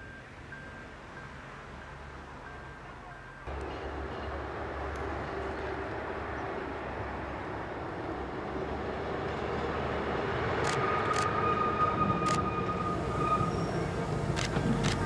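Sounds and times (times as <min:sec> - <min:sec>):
railcar running noise with low hum: 0:00.0 - 0:15.0.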